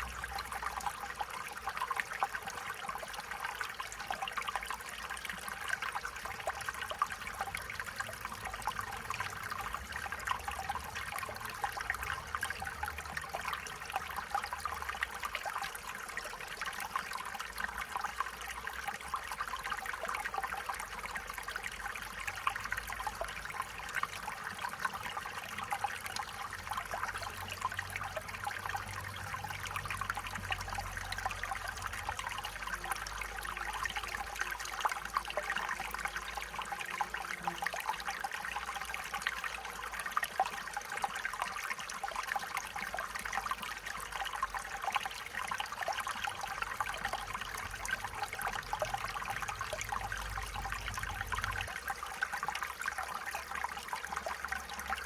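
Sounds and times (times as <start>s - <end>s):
stream trickling over stones: 0.0s - 55.0s.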